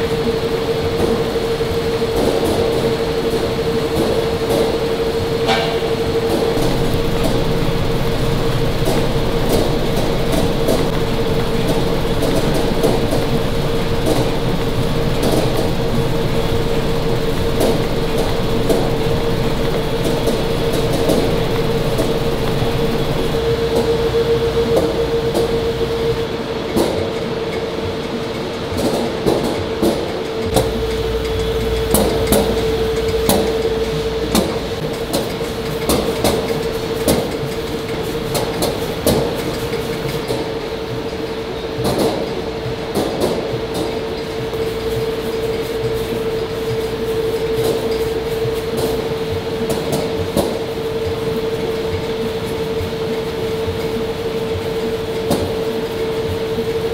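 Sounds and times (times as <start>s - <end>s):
conveyor machinery hum: 0.0s - 56.9s.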